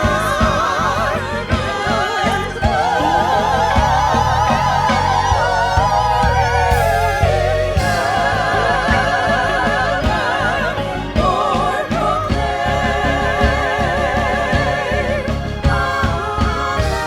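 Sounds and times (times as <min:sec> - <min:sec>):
bass: 0:00.0 - 0:17.0
person singing with vibrato: 0:00.0 - 0:17.0
steady beat: 0:00.0 - 0:17.0.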